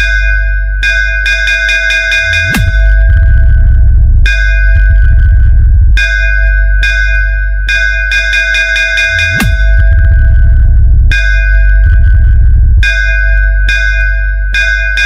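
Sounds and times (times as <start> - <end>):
bell-like synth strikes: 0.0 - 15.0
heavy deep bass: 0.0 - 15.0.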